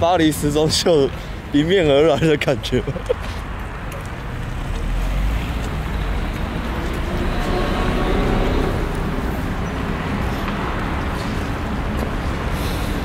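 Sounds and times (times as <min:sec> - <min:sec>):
passing cars and buses: 0:00.0 - 0:13.0.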